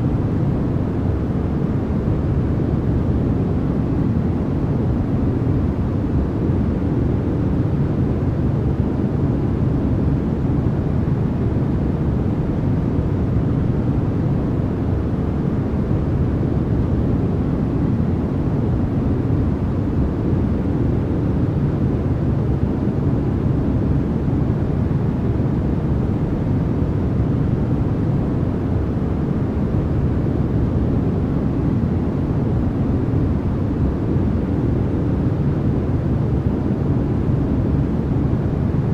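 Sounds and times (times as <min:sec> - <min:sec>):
low white noise: 0:00.0 - 0:38.9.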